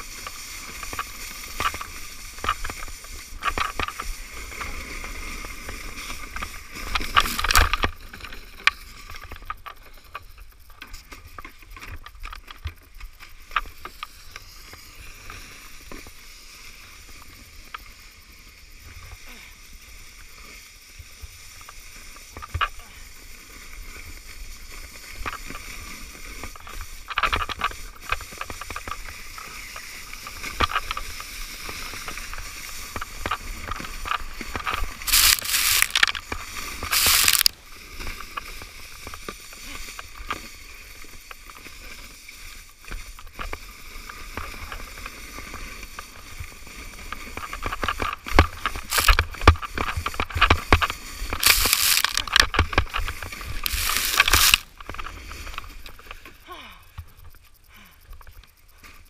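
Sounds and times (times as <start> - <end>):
sled scraping over snow: 0.0 - 56.4.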